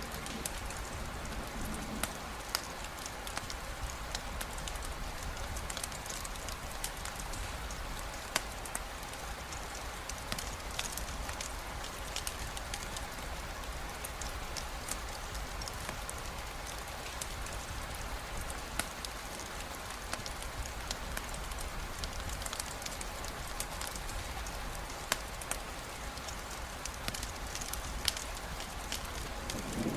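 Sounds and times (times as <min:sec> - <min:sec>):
campfire crackling and popping: 0:00.0 - 0:29.9
steady rain: 0:00.0 - 0:29.9.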